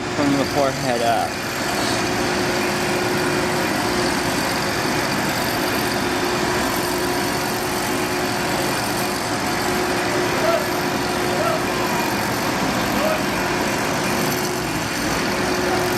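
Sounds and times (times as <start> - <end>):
small engine humming: 0.0 - 15.9.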